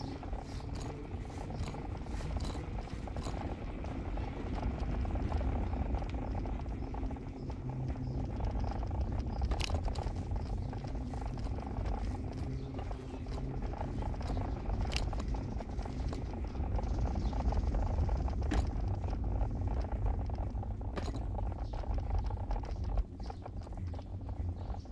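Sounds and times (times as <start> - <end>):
vehicle rumbling in motion: 0.0 - 24.9.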